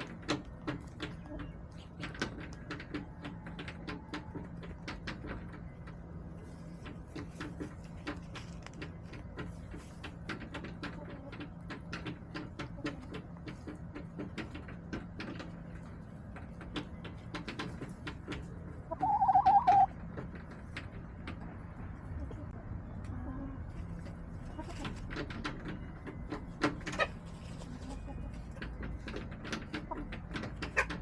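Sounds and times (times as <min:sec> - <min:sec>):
chickens pecking and scratching: 0:00.0 - 0:31.0.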